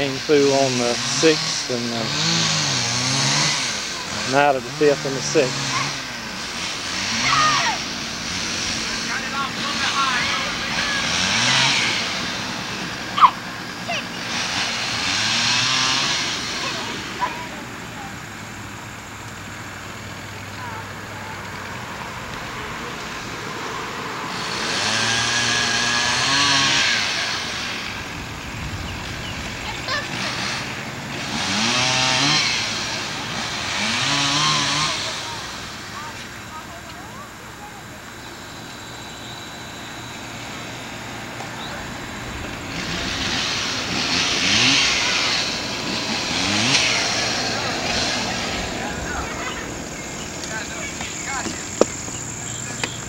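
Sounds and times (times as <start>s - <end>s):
chainsaw revving: 0.0s - 53.0s
harsh hiss: 0.0s - 53.0s.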